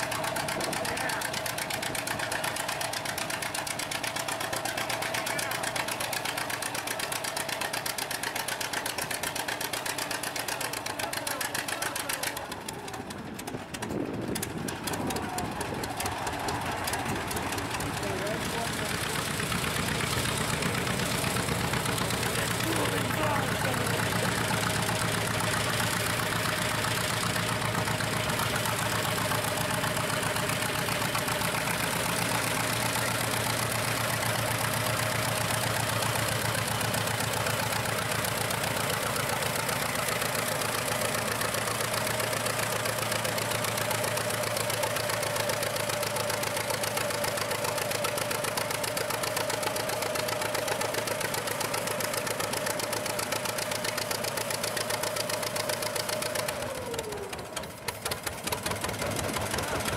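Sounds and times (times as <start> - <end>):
tractor engine chugging: 0.0 - 59.9.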